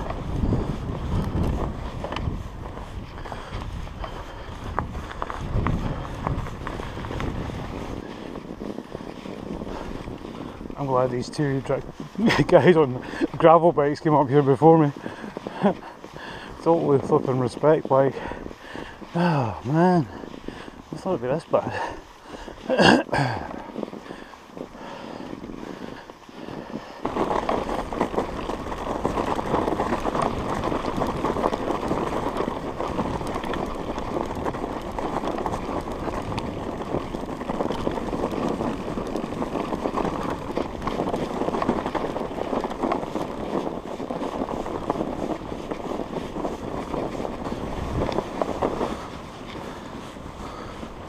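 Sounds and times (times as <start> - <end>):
bike tyres crunching over snow: 0.0 - 51.0.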